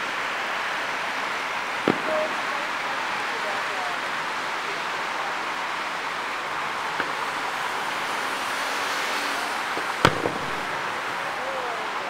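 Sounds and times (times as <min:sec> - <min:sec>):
distant fireworks boom: 0:00.0 - 0:12.0
outdoor noise hiss: 0:00.0 - 0:12.0.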